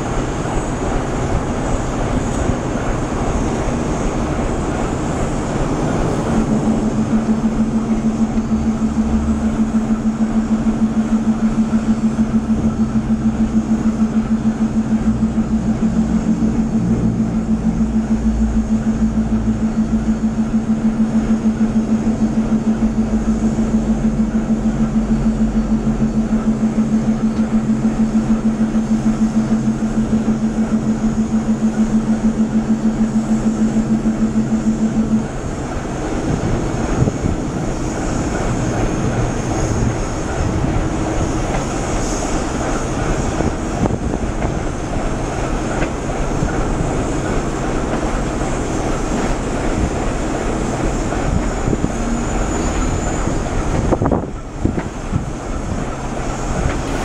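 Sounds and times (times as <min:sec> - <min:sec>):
loud pulsing hum: 0:00.0 - 0:57.0
train coaches rolling: 0:00.0 - 0:57.0.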